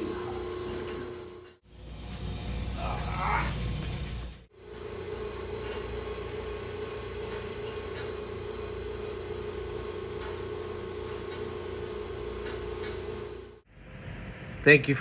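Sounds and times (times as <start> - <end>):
machinery humming: 0.0 - 13.6.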